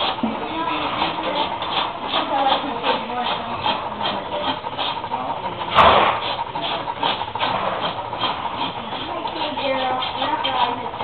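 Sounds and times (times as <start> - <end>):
hand tool scraping hoof: 0.0 - 11.0.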